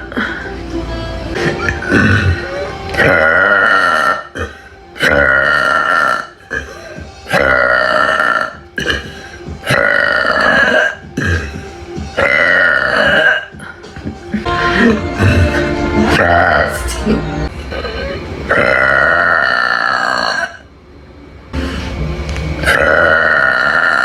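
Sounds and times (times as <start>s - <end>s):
woman burping loudly: 1.4s - 13.7s, 14.5s - 20.7s, 22.6s - 24.0s.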